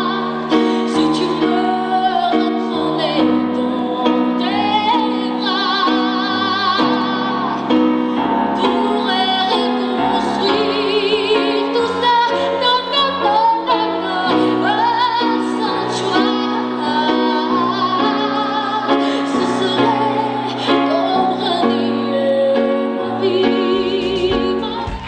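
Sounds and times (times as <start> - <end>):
woman singing into microphone: 0.0 - 25.0.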